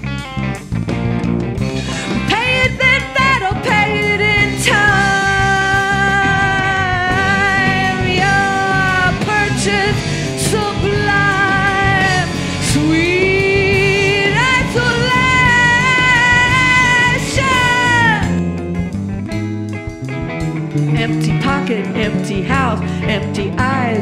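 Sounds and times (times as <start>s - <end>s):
lead guitar bending held notes: 0.0s - 24.0s
live rock band playing: 0.0s - 24.0s.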